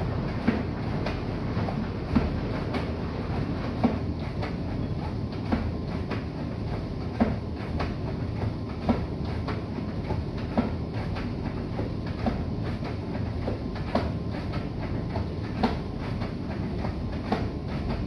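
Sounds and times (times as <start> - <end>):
washing machine knocking: 0.0 - 18.0
washing machine rumbling: 0.0 - 18.0.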